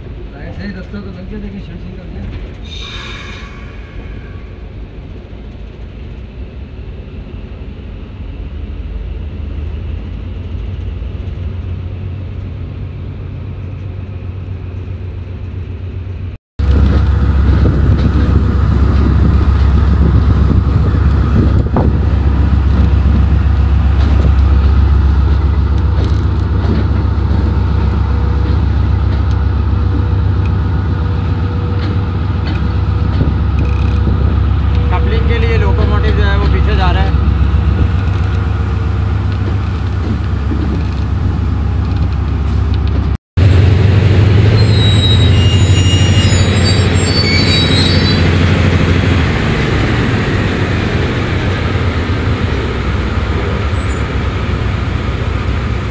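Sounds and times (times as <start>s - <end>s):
diesel locomotive engine rumbling: 0.0s - 55.9s.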